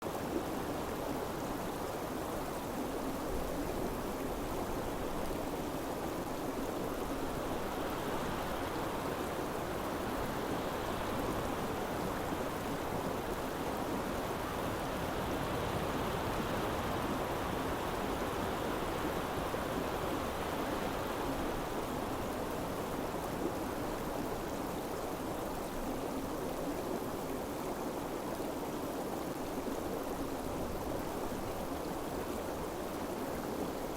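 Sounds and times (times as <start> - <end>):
mountain stream flowing: 0.0 - 33.9.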